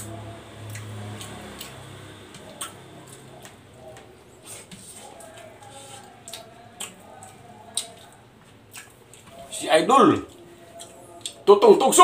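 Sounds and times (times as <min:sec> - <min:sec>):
person chewing rice: 0:00.0 - 0:09.5, 0:10.2 - 0:11.4.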